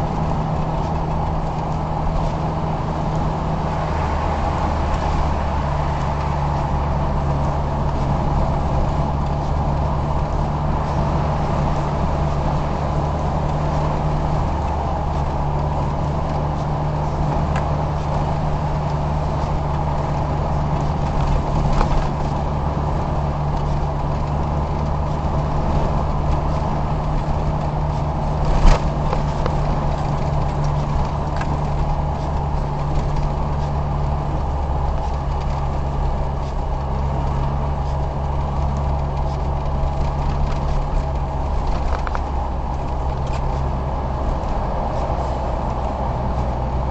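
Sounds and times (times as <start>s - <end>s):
car engine hum and road noise: 0.0s - 46.9s.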